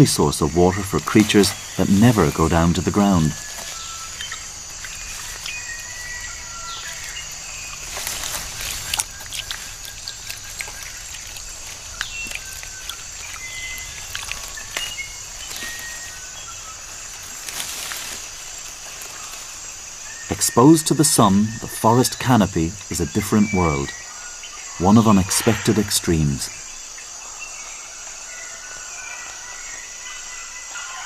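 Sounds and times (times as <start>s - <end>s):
birds chirping: 0.0s - 31.0s
high insect drone: 0.0s - 31.0s.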